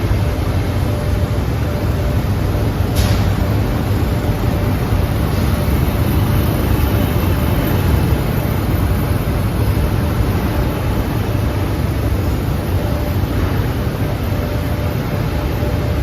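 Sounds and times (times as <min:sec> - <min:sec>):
grinding machines humming: 0:00.0 - 0:16.0.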